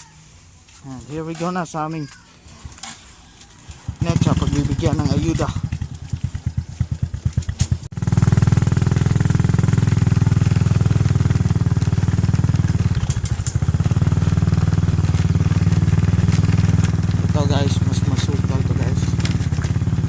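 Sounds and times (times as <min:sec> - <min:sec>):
motorcycle engine running: 0:03.6 - 0:20.0.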